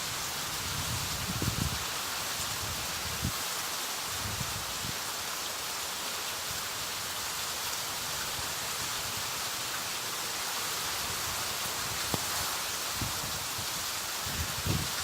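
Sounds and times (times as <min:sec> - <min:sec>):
rain and wind hiss: 0:00.0 - 0:15.0.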